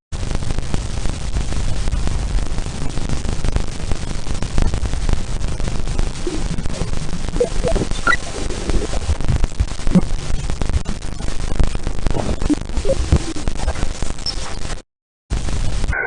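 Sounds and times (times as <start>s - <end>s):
dense crackling static: 0.1s - 16.0s.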